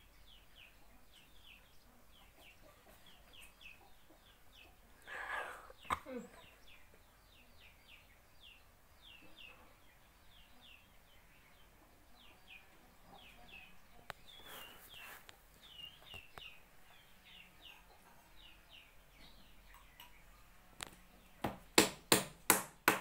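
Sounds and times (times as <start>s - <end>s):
small birds chirping: 0.0s - 22.2s.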